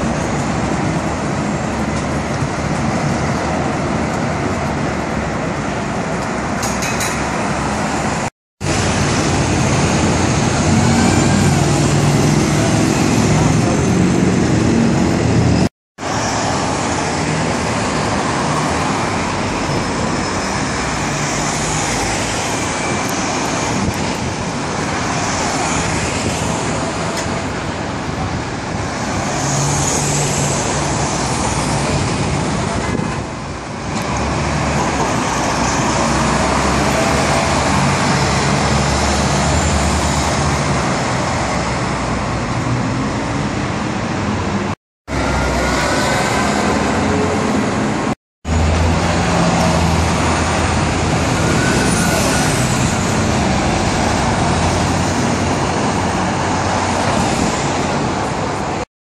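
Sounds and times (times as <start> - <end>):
bus engines passing: 0.0 - 58.9
traffic noise: 0.0 - 58.9.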